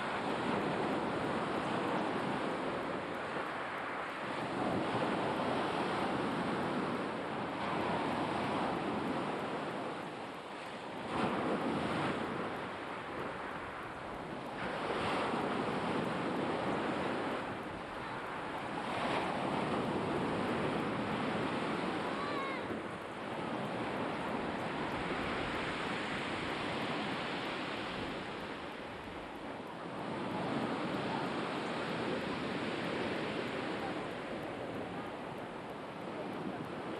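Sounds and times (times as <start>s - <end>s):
waves washing onto shore: 0.0s - 36.9s.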